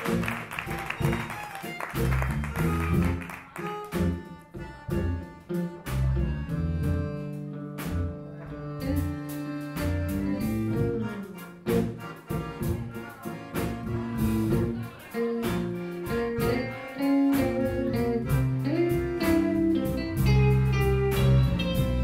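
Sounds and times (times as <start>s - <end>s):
accordion: 0.0s - 22.0s
bass: 0.0s - 22.0s
drums: 0.0s - 22.0s
electric guitar: 0.0s - 22.0s.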